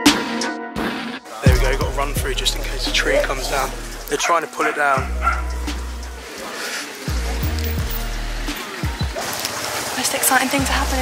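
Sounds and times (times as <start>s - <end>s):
hip-hop beat music: 0.0s - 9.4s.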